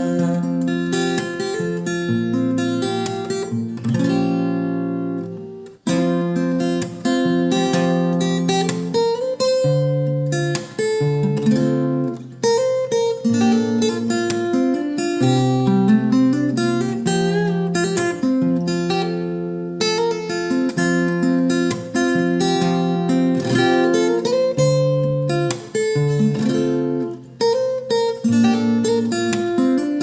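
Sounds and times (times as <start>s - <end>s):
acoustic guitar picked and strummed: 0.0s - 30.0s.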